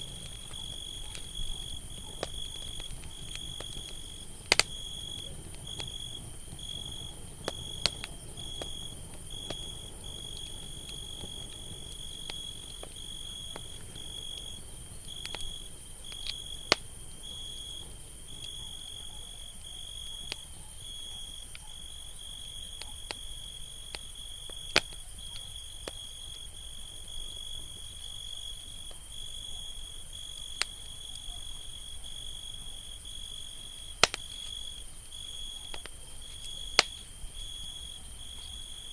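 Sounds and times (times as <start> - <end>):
campfire burning with pops: 0.0 - 38.9
cricket trill: 0.0 - 38.9.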